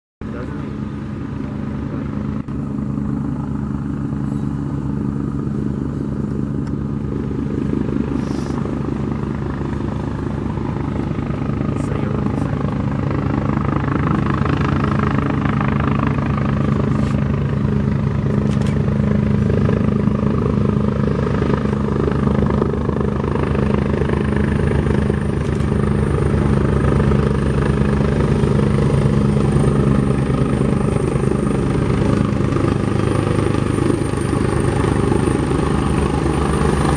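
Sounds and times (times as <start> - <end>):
helicopter rotor and turbine: 0.2 - 36.9.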